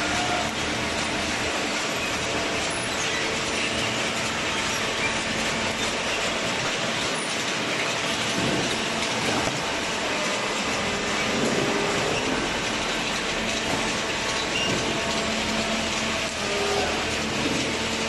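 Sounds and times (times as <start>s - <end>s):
baler machine running: 0.0s - 18.0s.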